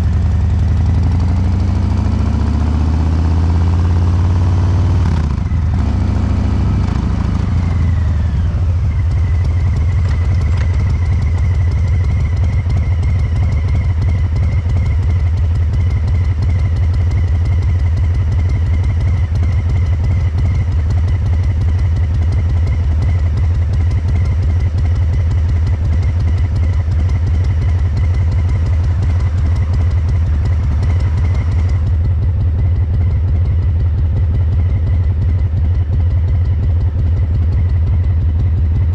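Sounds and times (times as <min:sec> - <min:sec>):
motorcycle engine at low revs: 0:00.0 - 0:38.9.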